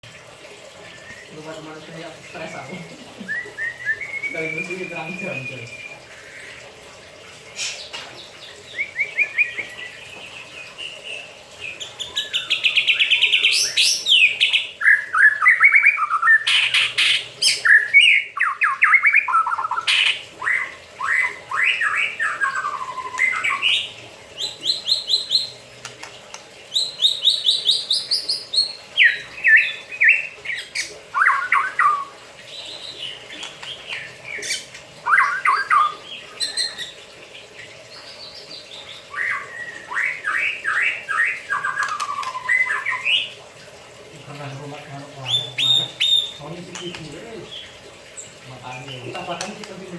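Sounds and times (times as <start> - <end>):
bird singing trills and whistles: 2.3 - 6.5, 7.6 - 25.6, 26.7 - 37.0, 38.0 - 43.4, 45.2 - 49.6.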